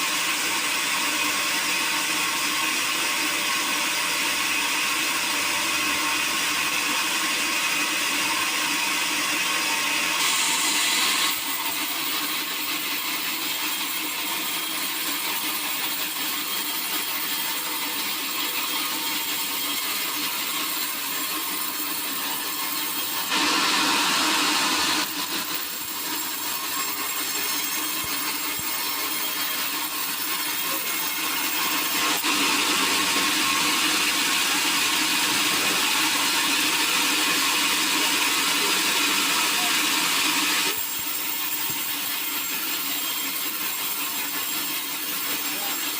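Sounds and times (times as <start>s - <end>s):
saw cutting through wood: 0.0s - 45.9s.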